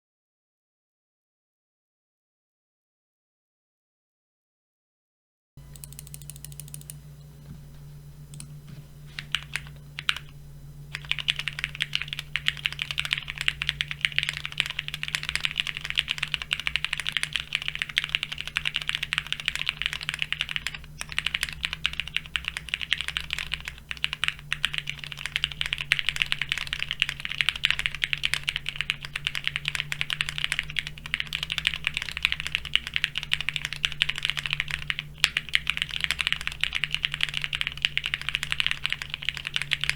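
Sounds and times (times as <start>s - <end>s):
mechanical keyboard typing: 5.7s - 7.0s, 9.1s - 39.9s.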